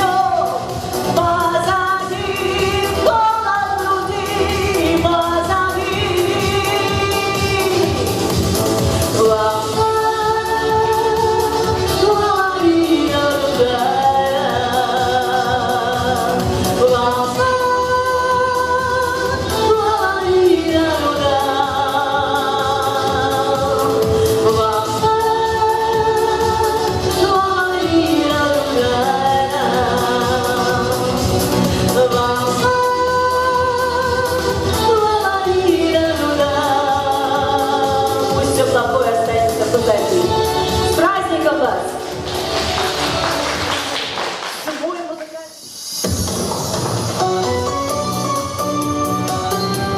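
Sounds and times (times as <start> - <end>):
musical accompaniment: 0.0 - 49.9.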